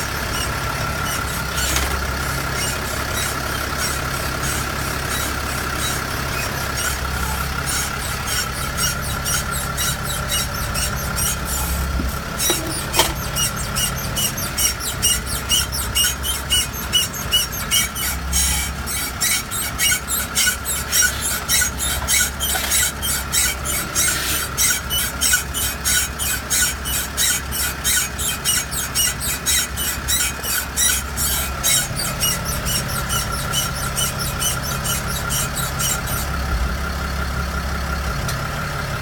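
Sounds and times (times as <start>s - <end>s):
high-pitched squeal: 0.0s - 36.5s
rhythmic chirping squeak: 0.0s - 36.6s
engine running: 0.0s - 39.0s.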